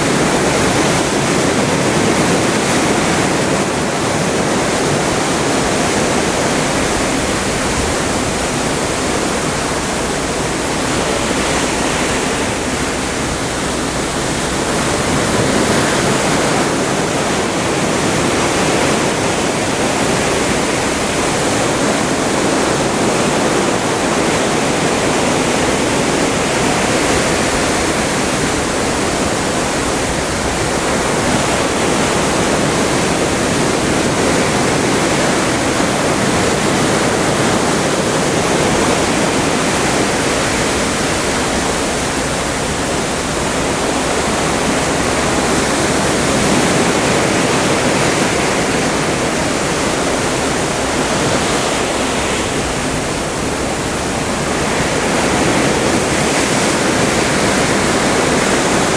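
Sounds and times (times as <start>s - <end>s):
sea water rushing past hull: 0.0s - 58.9s.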